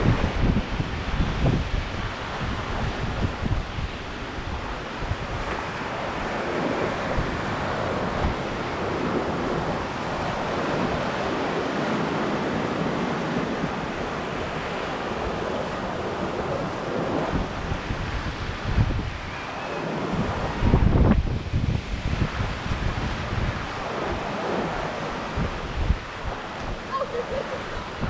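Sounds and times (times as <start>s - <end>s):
waves breaking on beach: 0.0s - 28.0s
wind buffeting microphone: 0.0s - 28.0s.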